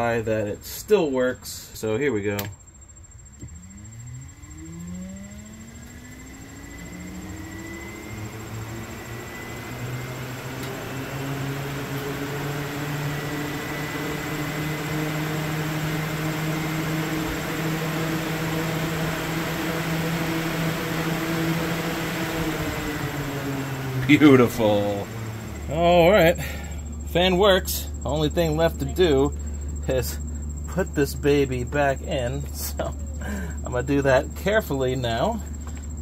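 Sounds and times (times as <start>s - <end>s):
electric fan motor whirring: 1.8s - 36.0s.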